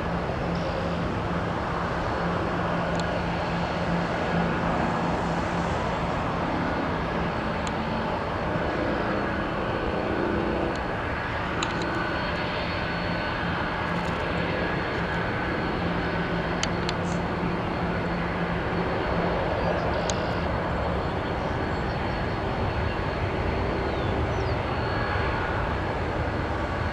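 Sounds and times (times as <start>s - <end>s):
faint high whine: 0.0s - 26.9s
jet engines rushing: 0.0s - 26.9s.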